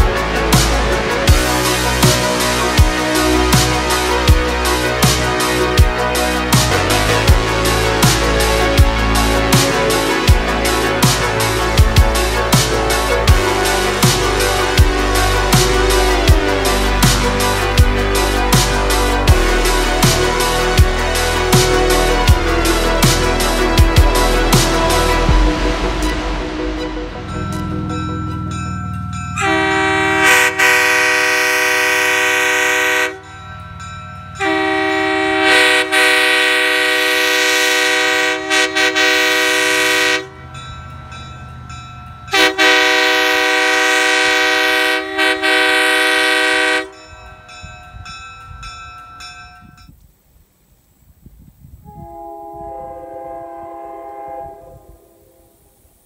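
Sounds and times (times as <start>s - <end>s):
train horn blasts: 0.0s - 33.4s, 34.4s - 40.7s, 42.3s - 47.4s, 51.8s - 56.0s.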